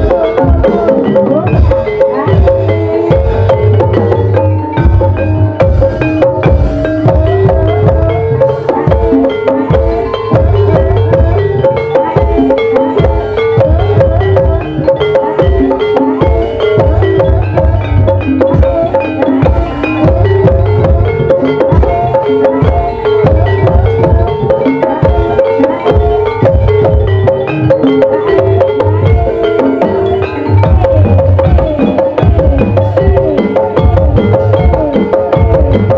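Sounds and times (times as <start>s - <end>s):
metallophones ringing a melody: 0.0s - 35.9s.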